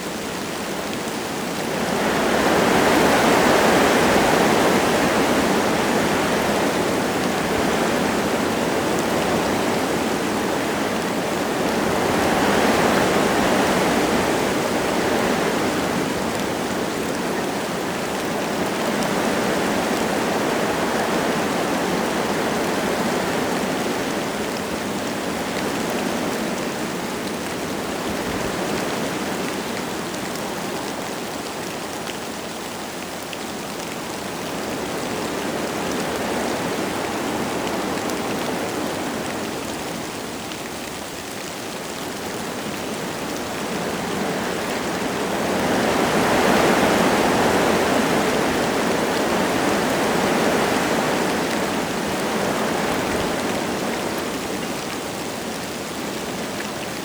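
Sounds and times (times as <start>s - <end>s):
light rain falling: 0.0s - 57.0s
wind gusting through trees: 0.0s - 57.0s.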